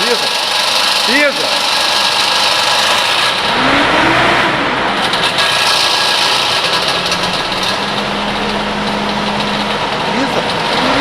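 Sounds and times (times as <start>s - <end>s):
engine running and revving: 0.0s - 11.0s
radiator fan roaring: 0.0s - 11.0s.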